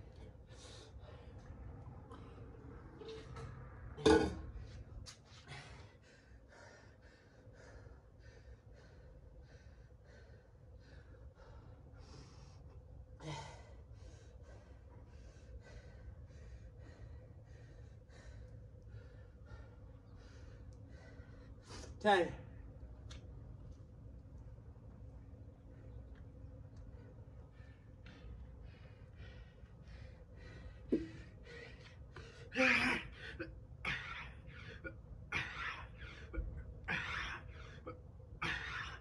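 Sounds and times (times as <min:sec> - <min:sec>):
man breathing hard: 0:00.0 - 0:03.2, 0:04.6 - 0:22.0, 0:25.6 - 0:39.0.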